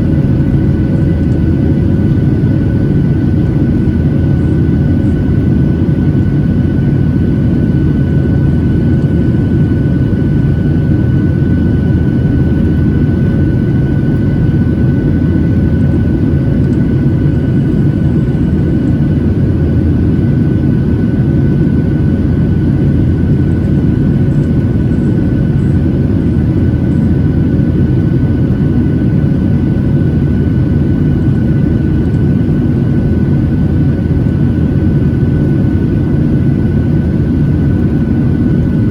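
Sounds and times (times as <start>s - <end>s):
airliner cabin rumble: 0.0s - 38.9s
thin steady whine: 0.0s - 38.9s.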